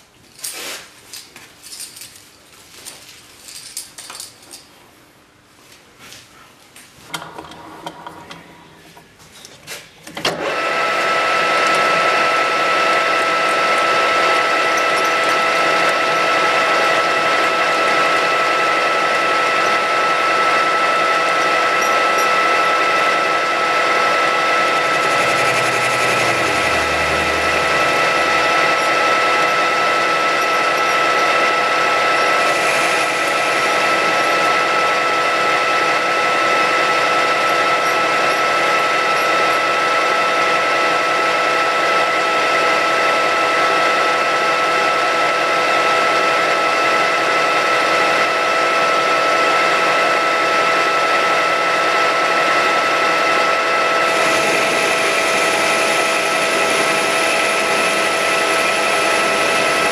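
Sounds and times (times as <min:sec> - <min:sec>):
metal lathe running with gear whine: 0:07.1 - 0:08.8, 0:10.3 - 0:59.9.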